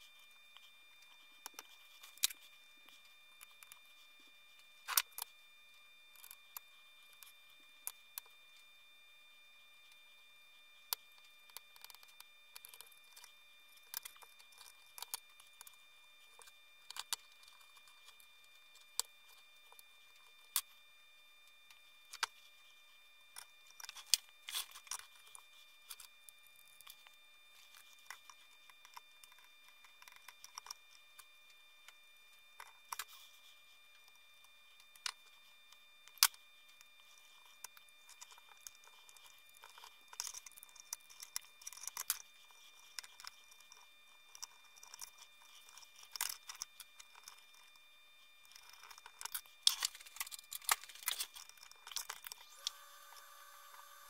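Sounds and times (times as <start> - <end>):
faint high whine: 0.0 - 54.0.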